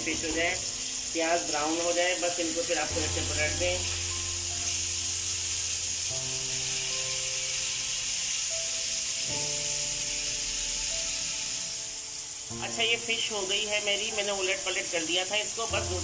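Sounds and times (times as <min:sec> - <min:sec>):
background music of held chords: 0:00.0 - 0:16.0
fish frying in oil: 0:00.0 - 0:16.0.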